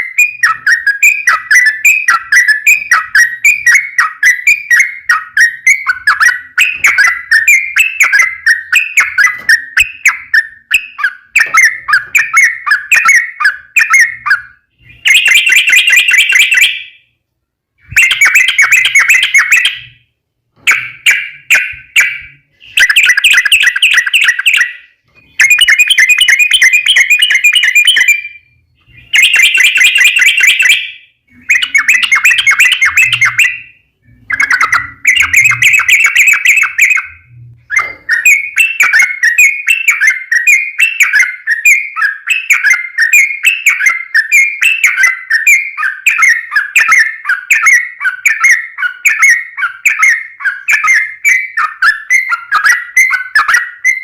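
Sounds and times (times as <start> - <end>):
bird singing rapid chattering phrases: 0.0 - 17.1, 17.8 - 20.0, 20.6 - 54.0.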